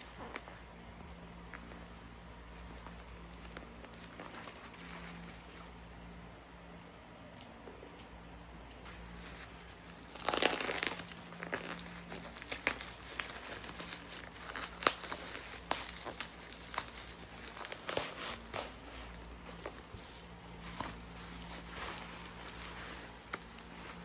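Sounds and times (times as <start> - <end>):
bubble wrap crinkling and crackling: 0.0 - 6.3, 8.6 - 24.0.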